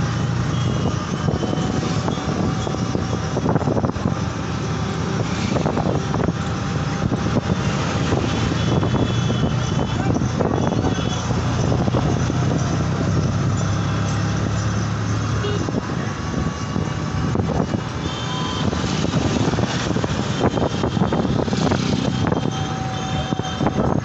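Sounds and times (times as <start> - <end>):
street noise: 0.0 - 24.0
vehicle engine humming: 0.0 - 24.0.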